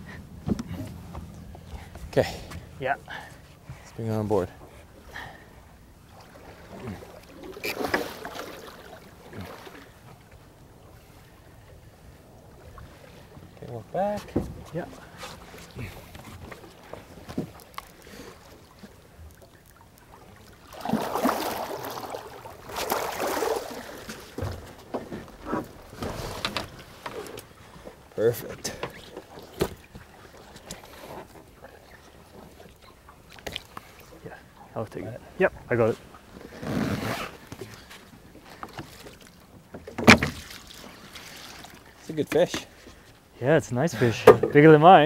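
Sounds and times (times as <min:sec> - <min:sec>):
water splashing against boat: 0:00.0 - 0:45.0.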